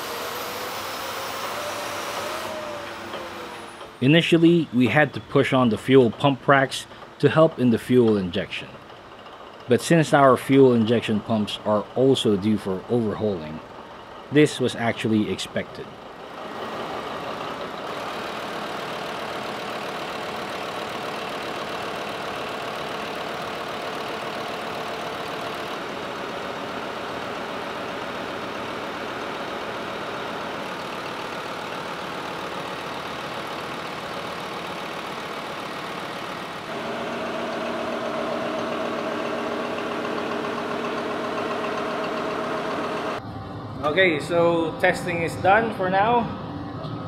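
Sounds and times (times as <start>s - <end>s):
diesel engine idling: 0.0s - 43.4s.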